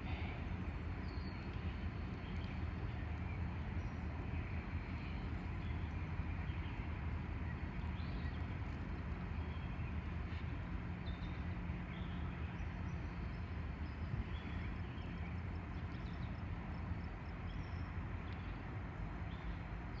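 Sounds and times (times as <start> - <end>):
diesel locomotive droning: 0.0 - 19.9.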